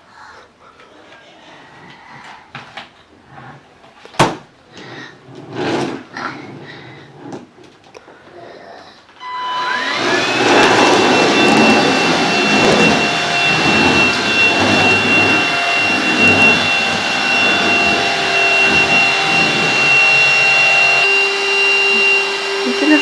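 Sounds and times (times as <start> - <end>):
stick vacuum cleaner whining: 1.7 - 23.0.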